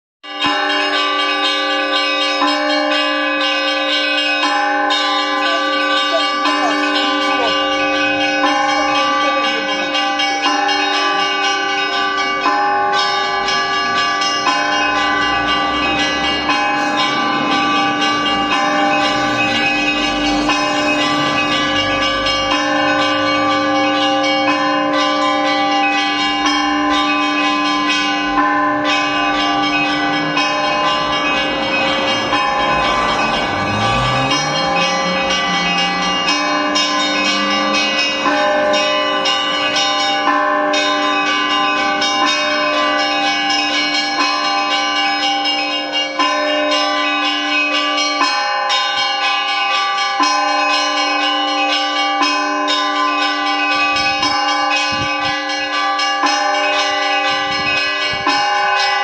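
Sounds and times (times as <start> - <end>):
church bells ringing: 0.2 - 59.0.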